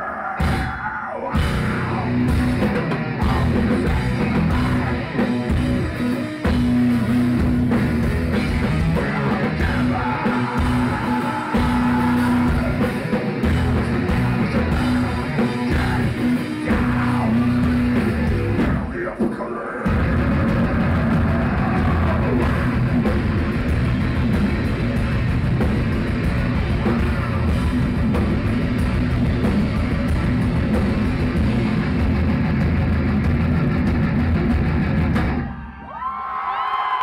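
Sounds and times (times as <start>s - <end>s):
heavy metal band playing live: 0.0s - 35.8s.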